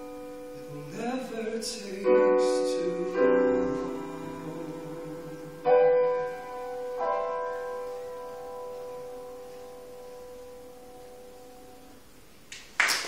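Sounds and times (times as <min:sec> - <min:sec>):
piano chords ringing: 0:00.0 - 0:12.5.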